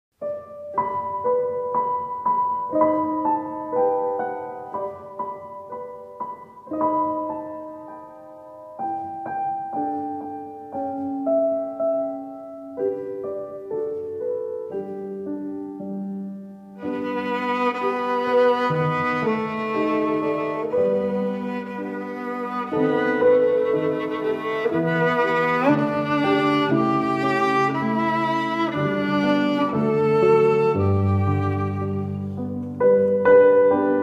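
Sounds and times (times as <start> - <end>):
slow solo piano music: 0.2 - 34.0.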